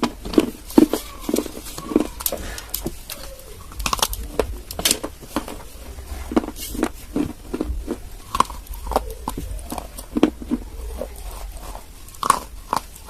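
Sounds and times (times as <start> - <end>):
dry clay being chewed: 0.0 - 13.0.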